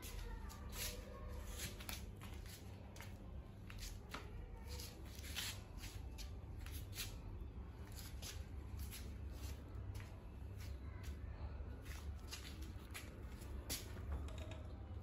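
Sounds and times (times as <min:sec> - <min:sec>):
shuffling steps on tile floor: 0:00.0 - 0:14.1.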